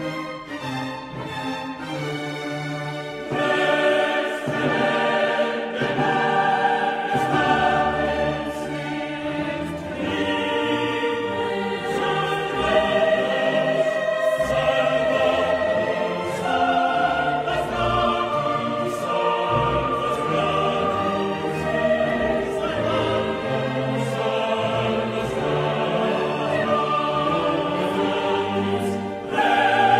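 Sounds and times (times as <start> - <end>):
choir singing: 0.0 - 29.9
orchestra playing: 0.0 - 29.9.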